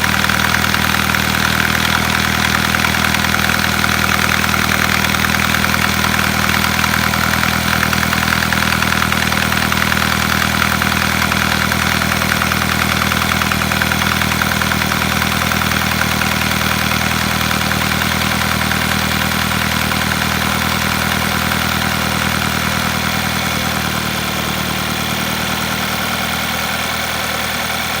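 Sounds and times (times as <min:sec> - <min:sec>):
car engine idling with knock: 0:00.0 - 0:28.0.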